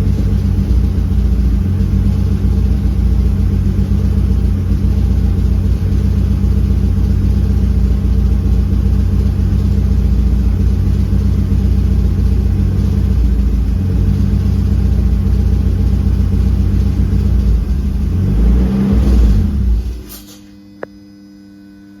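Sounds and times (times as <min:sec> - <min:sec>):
car engine idling roughly: 0:00.0 - 0:20.1.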